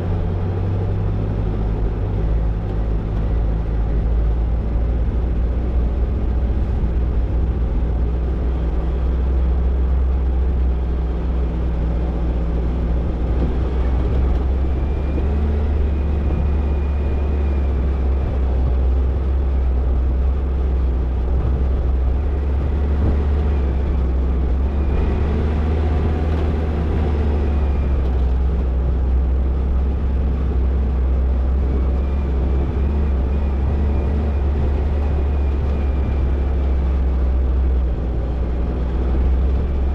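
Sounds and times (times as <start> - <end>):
car engine drone: 0.0 - 39.9
road and drivetrain noise: 0.0 - 39.9.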